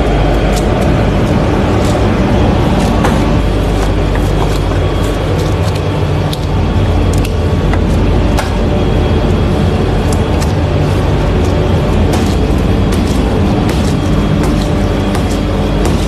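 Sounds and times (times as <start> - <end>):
loud mechanical drone: 0.0 - 16.0.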